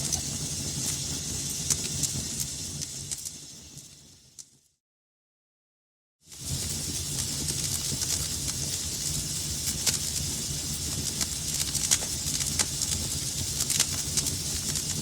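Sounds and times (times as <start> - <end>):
wood fire burning: 0.0 - 4.6, 6.3 - 15.0.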